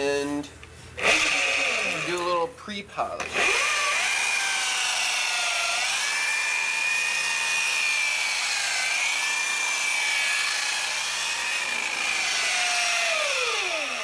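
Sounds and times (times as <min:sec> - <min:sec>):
sander motor whine: 0:01.0 - 0:02.3, 0:03.2 - 0:14.0.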